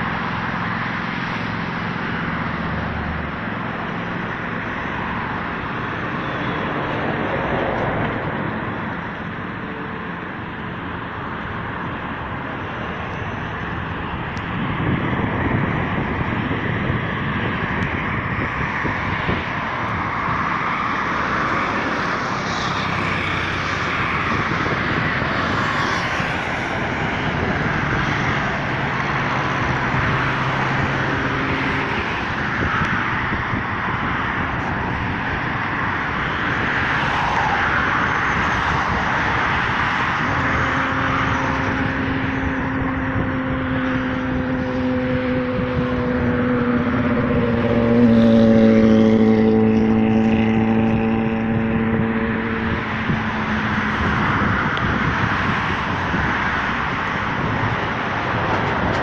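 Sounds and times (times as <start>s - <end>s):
road traffic: 0.0s - 59.0s
vehicles passing: 0.0s - 59.0s.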